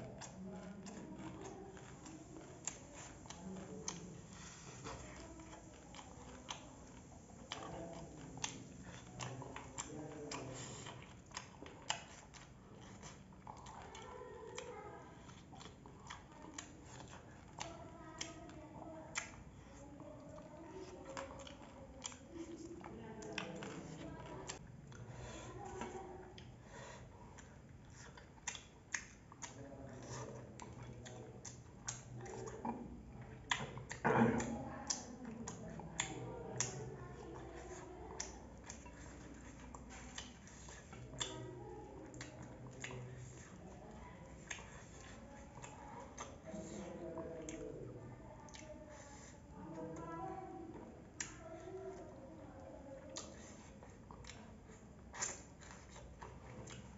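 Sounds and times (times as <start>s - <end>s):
chewing: 0.0s - 56.9s
fingers mixing rice on steel plate: 0.0s - 56.9s.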